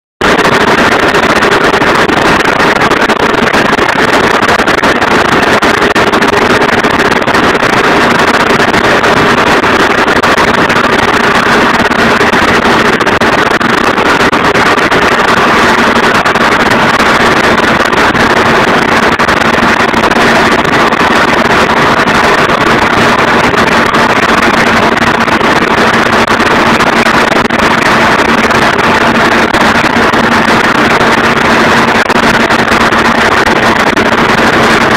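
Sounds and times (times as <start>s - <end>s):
low hum: 0.2s - 34.9s
mixer mechanical drone: 0.2s - 34.9s.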